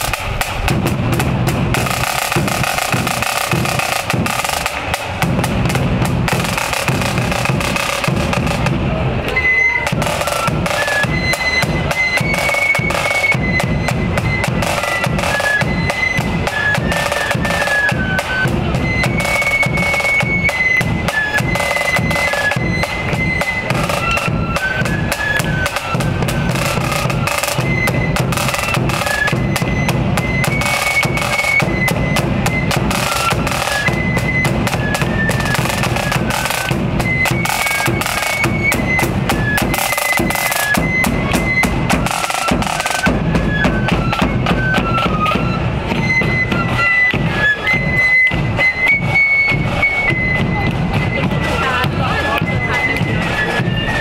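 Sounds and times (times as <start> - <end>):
high melody line: 0.0 - 54.0
marching band drums: 0.0 - 54.0.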